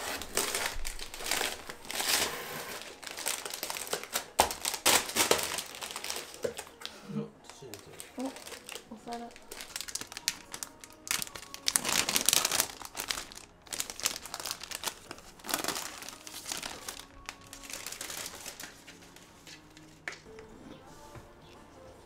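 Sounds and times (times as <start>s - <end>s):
plastic sleeves crinkling: 0.0s - 20.3s.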